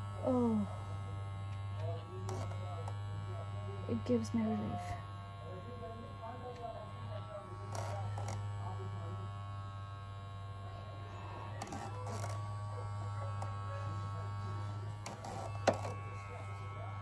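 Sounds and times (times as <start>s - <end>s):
vibrating massage brush buzzing: 0.0s - 17.0s.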